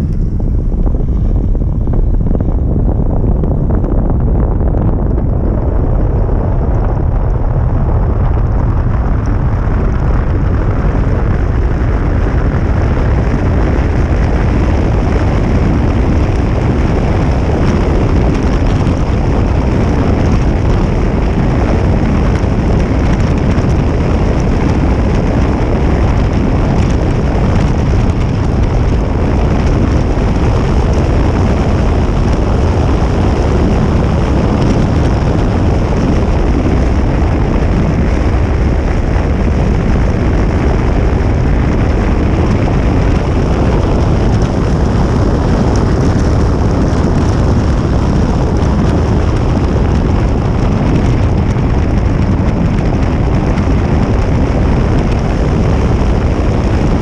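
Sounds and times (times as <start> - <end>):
car driving on wet road: 0.0 - 57.0.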